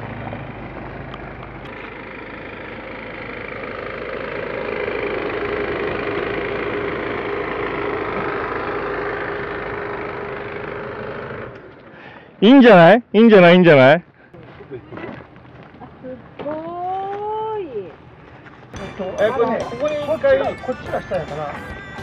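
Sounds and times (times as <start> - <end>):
van engine running: 0.0 - 22.0.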